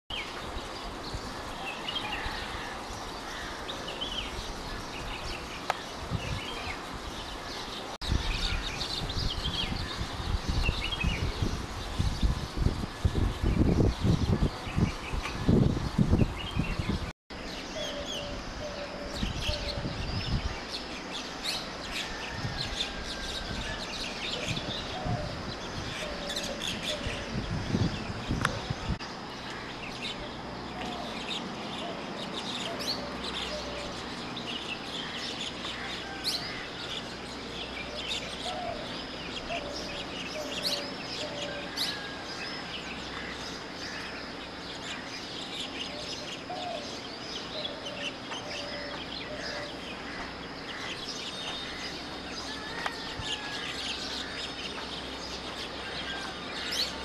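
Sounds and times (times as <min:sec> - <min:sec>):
birds chirping: 0:00.1 - 0:57.0
steady background noise: 0:00.1 - 0:57.0.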